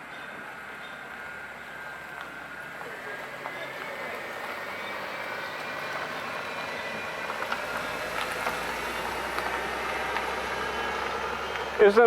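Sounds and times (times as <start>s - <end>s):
outdoor background noise: 0.0s - 12.0s
vehicle engine rumble: 0.0s - 12.0s.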